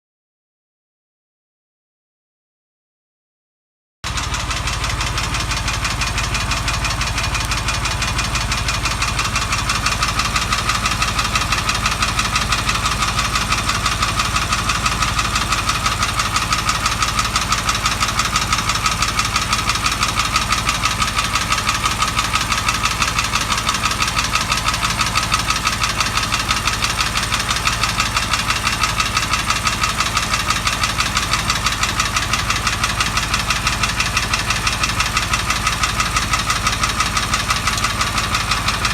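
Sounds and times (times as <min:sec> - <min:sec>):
car engine idling: 0:04.1 - 0:38.9
rapid engine knocking: 0:04.1 - 0:38.9.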